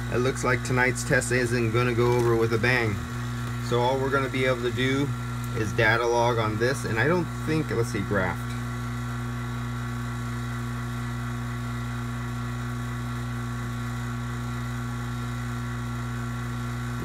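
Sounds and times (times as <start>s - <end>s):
vacuum pump humming: 0.0s - 17.0s.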